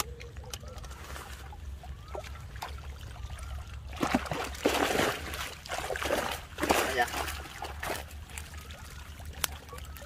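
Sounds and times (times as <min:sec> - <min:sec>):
water trickling and dripping: 0:00.0 - 0:10.0.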